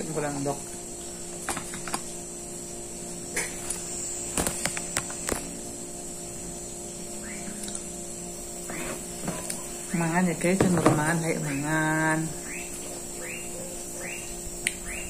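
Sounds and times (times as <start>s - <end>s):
electrical hum with high whine: 0.0s - 15.0s.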